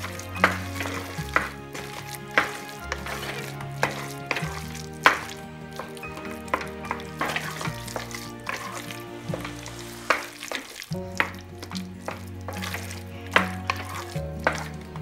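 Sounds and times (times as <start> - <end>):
background music with held chords: 0.0 - 15.0
metal spoon scraping a pot: 0.0 - 15.0.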